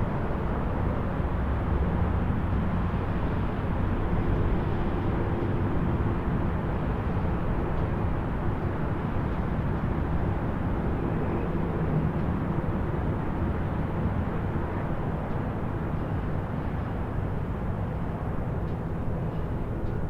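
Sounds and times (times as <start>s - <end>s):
distant highway traffic: 0.0s - 20.0s.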